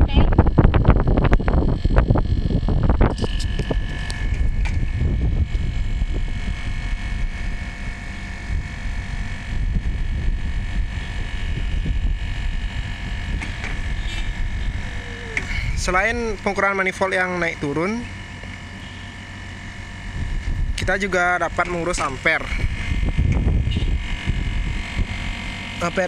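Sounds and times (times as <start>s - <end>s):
wind on microphone: 0.0s - 16.6s, 20.0s - 25.5s
air conditioner unit rumbling: 0.0s - 26.0s
high whine: 0.0s - 26.0s.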